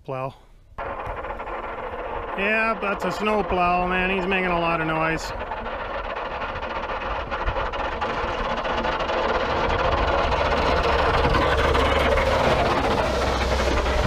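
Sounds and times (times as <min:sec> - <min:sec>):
plow blade scraping pavement: 0:00.8 - 0:14.0
truck engine running: 0:00.8 - 0:14.0.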